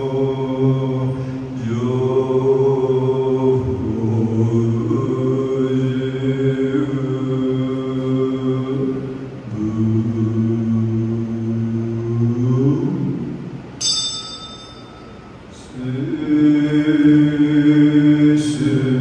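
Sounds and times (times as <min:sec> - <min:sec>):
man chanting in a low voice: 0:00.0 - 0:13.5, 0:15.6 - 0:19.0.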